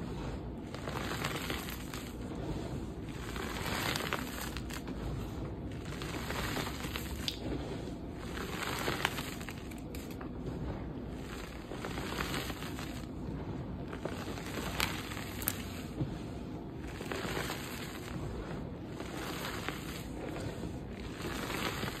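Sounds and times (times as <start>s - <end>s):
chalk crunching and crumbling: 0.0s - 22.0s.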